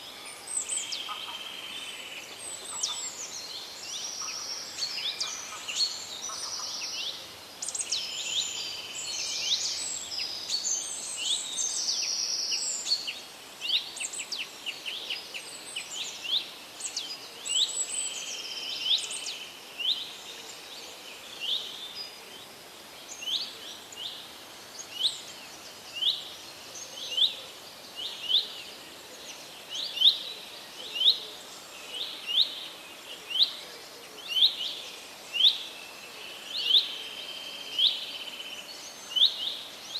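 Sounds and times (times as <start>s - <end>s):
faint background hiss: 0.0s - 39.9s.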